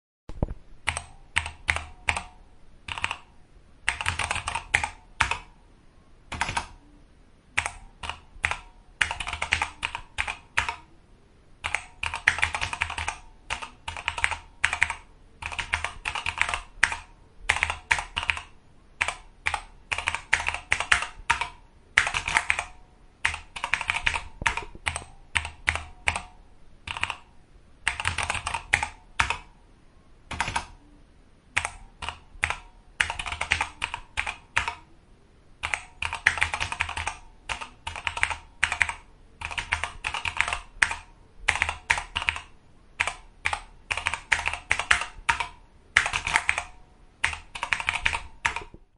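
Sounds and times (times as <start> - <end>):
computer keyboard typing: 0.8 - 5.5, 6.3 - 6.8, 7.6 - 10.9, 11.6 - 29.5, 30.3 - 30.8, 31.6 - 34.9, 35.6 - 48.9.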